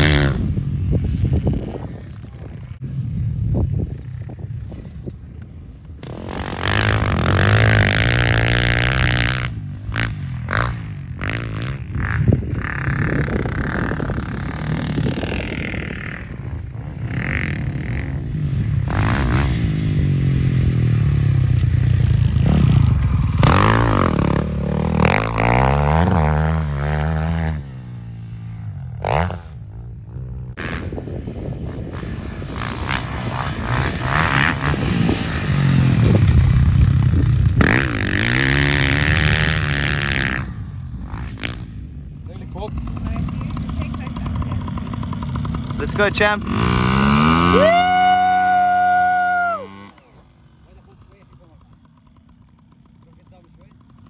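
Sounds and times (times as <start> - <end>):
motocross bike engine revving: 0.0 - 2.9, 6.0 - 54.0.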